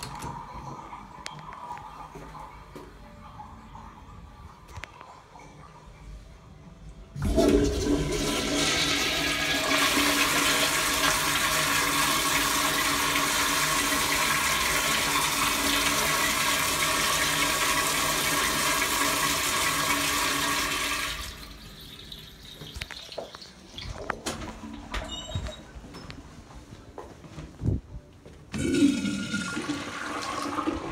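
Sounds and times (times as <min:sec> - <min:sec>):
toilet flushing: 0:00.0 - 0:25.0, 0:28.5 - 0:30.9.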